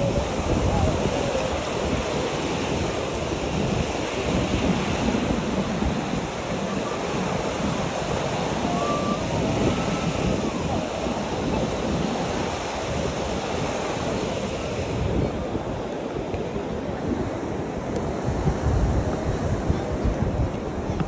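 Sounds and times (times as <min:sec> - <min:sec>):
sea waves washing onto beach: 0:00.0 - 0:21.0
wind buffeting microphone: 0:00.0 - 0:21.0.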